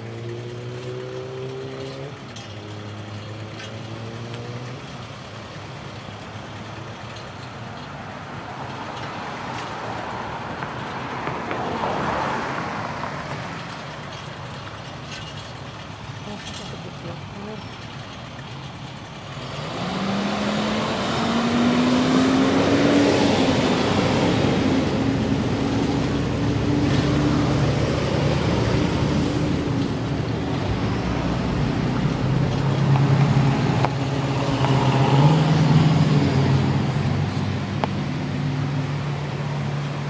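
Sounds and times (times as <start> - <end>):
road and wind noise: 0.0 - 40.0
vehicle engine running: 0.0 - 40.0.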